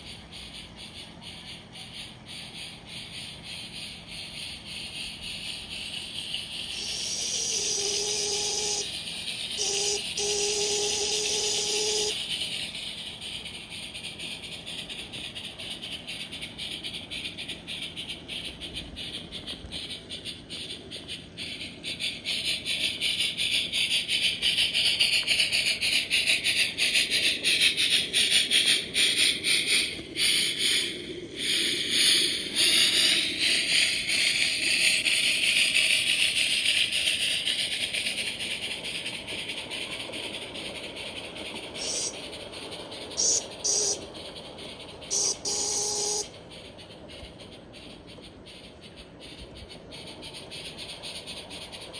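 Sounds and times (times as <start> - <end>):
model steam locomotive chuffing: 0.0 - 51.9.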